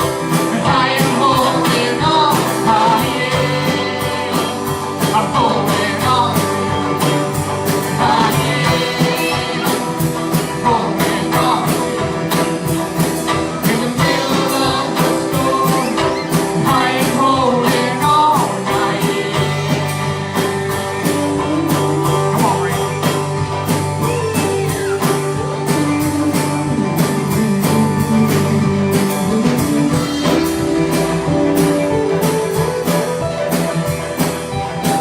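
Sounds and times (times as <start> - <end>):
person singing: 0.0 - 34.0
bass line: 0.0 - 35.0
drums playing a steady beat: 0.0 - 35.0
electric guitar: 0.0 - 35.0.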